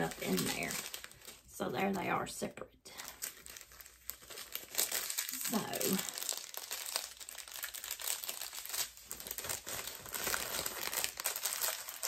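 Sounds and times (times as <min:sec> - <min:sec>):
plastic packaging crinkling: 0:00.0 - 0:02.1, 0:02.9 - 0:12.0.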